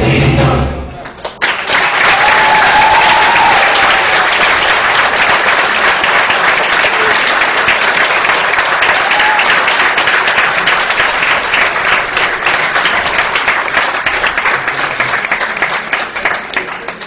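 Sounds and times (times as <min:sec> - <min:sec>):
audience applauding: 0:01.0 - 0:17.0.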